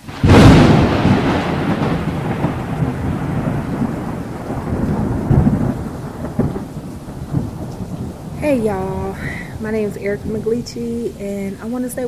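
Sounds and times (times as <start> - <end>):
steady rain: 0.0 - 12.0
thunder rumbling: 0.0 - 12.0.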